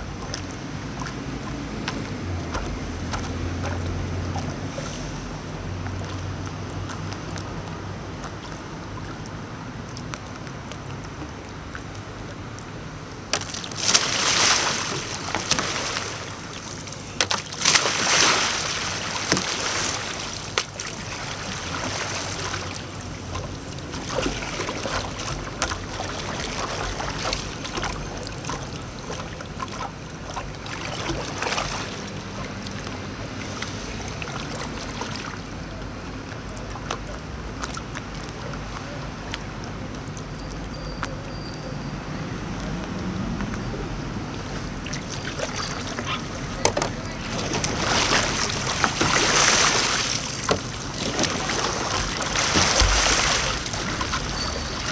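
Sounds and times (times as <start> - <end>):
paddle splashes: 0.0 - 41.3, 44.3 - 54.9
loud churning water splashes: 0.0 - 54.9
water lapping: 0.0 - 54.9.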